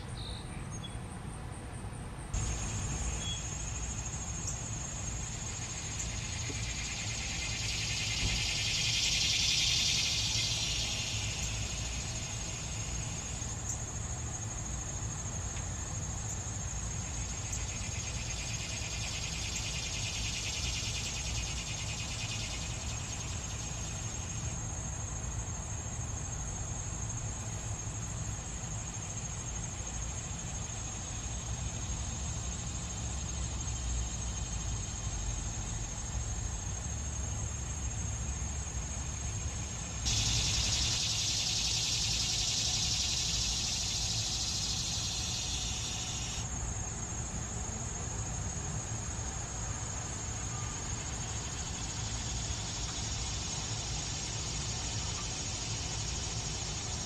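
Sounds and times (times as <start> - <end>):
cicadas buzzing: 0.0 - 1.0, 1.8 - 57.0
high-pitched insect trill: 2.3 - 57.0.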